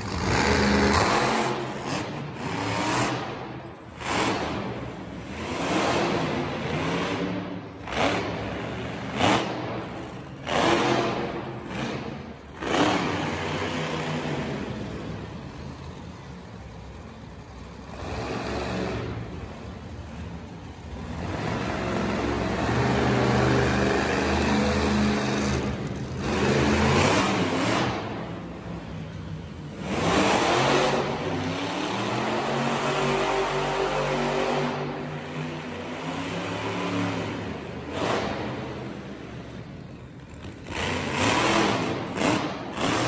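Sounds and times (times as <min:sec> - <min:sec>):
truck engine revving hard: 0:00.0 - 0:15.0, 0:20.9 - 0:28.7, 0:29.7 - 0:39.5, 0:40.2 - 0:43.0.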